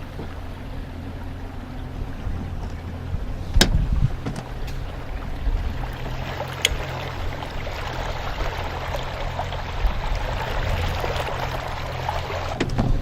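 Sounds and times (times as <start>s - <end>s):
motorboat engine hum: 0.0s - 13.0s
water splashing along hull: 0.0s - 13.0s.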